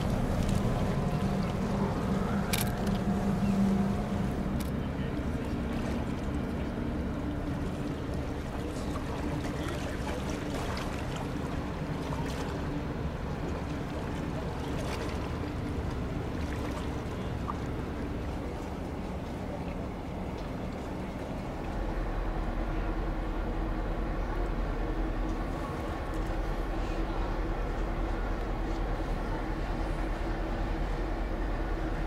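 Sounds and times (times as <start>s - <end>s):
ship machinery humming: 0.0s - 32.0s
wind and water noise: 0.0s - 32.0s.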